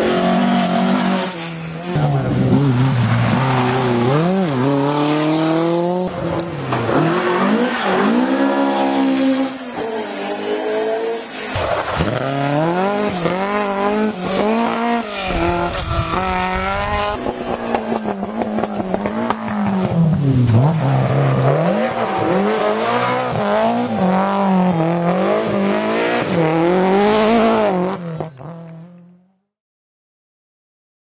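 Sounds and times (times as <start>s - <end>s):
rally car engines revving: 0.0s - 29.2s.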